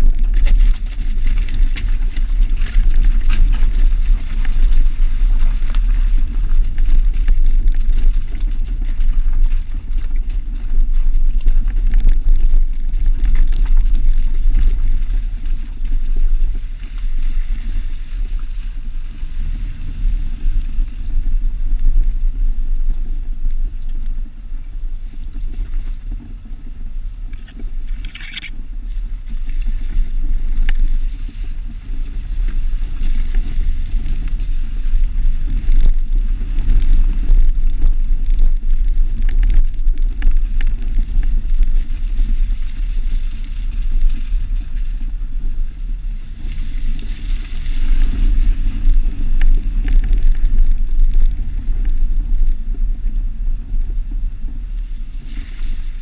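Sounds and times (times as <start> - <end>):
engine and tyre rumble: 0.0 - 56.0
wind buffeting microphone: 0.0 - 56.0.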